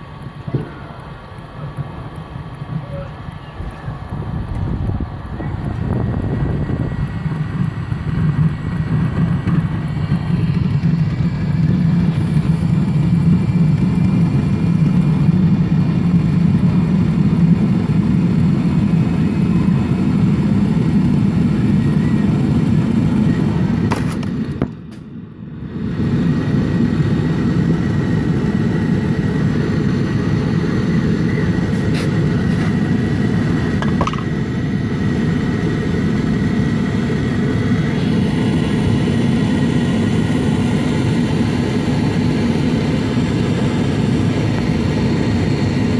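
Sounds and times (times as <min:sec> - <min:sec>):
heater fan and burner roaring: 0:00.0 - 0:45.9.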